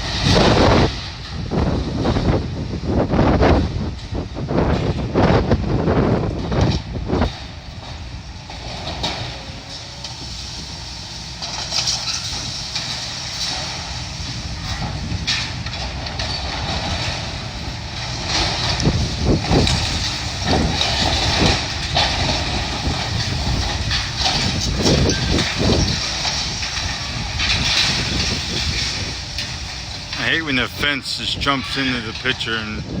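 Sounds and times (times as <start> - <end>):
debris crunching and clanking: 0.0 - 33.0
demolition machinery engine rumble: 0.0 - 33.0.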